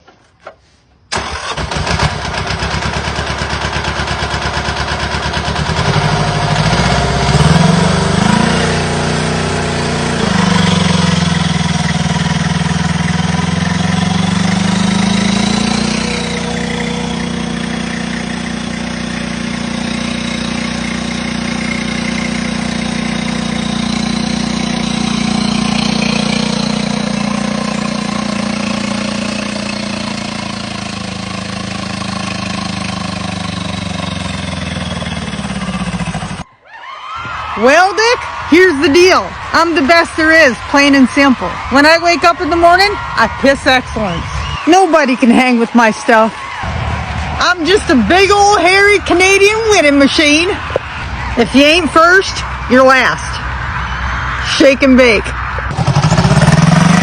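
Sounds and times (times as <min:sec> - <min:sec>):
tractor engine starting and revving: 0:01.1 - 0:36.5, 0:37.5 - 0:57.0.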